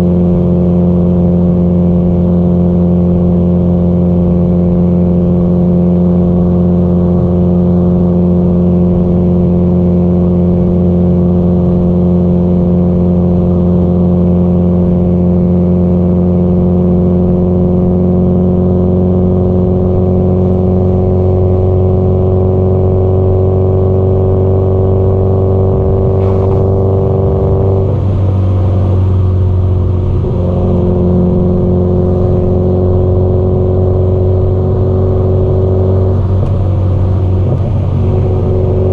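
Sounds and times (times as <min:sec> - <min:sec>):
car engine and exhaust cruising: 0:00.0 - 0:38.9.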